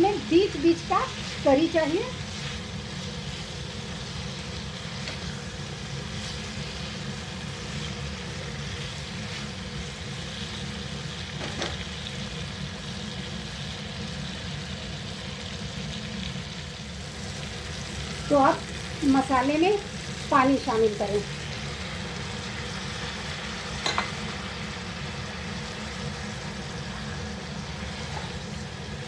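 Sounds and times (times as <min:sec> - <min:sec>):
vegetables sizzling in oil: 0:00.0 - 0:29.0.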